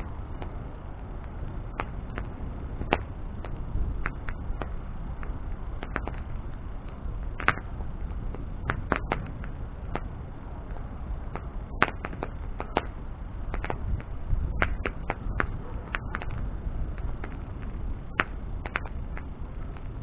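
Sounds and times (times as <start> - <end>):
bonfire crackling and popping: 0.0 - 20.0
low steady rush of fire: 0.0 - 20.0.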